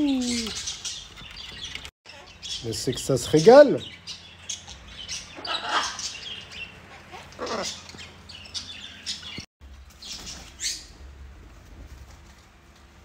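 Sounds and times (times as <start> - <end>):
pet birds chirping: 0.0 - 11.0.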